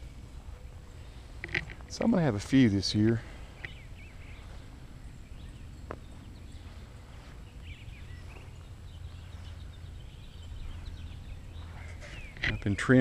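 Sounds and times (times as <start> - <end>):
songbirds chirping: 0.0 - 13.0
steady low rumble: 0.0 - 13.0.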